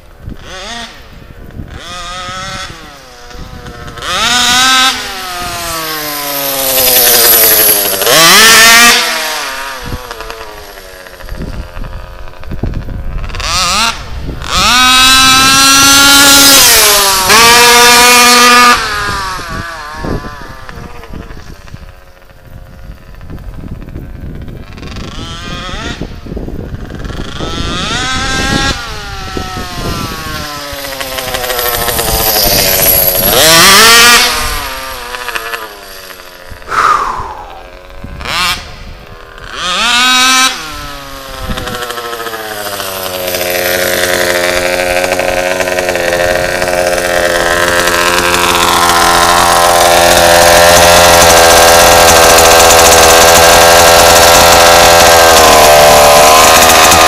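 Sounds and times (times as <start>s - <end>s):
two-stroke engine of rc car: 0.0s - 57.0s.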